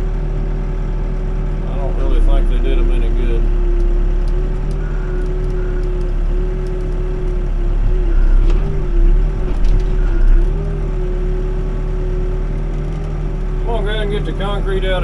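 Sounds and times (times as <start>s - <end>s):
backhoe engine running: 0.0s - 15.0s.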